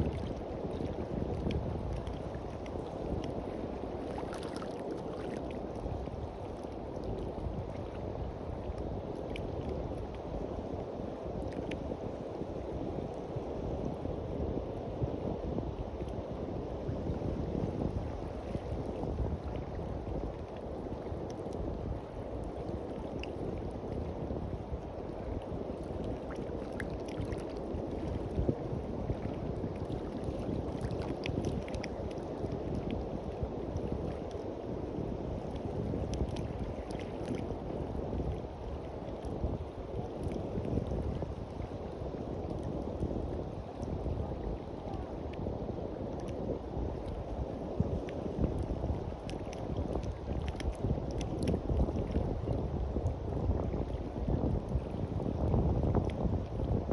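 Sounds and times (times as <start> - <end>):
faint ticks of water and sand: 0.0 - 56.9
small waves washing on shore: 0.0 - 56.9
wind on the microphone: 0.0 - 56.9.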